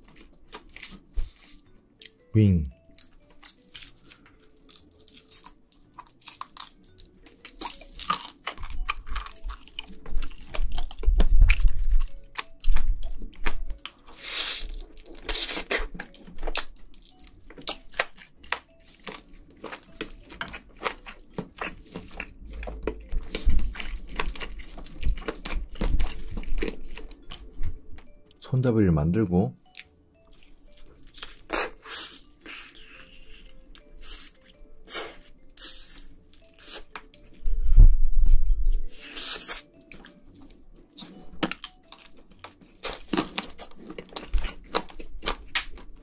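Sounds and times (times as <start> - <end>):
crunching and chewing fried chicken: 0.0 - 2.2, 2.9 - 28.1, 29.6 - 37.5, 39.0 - 46.0.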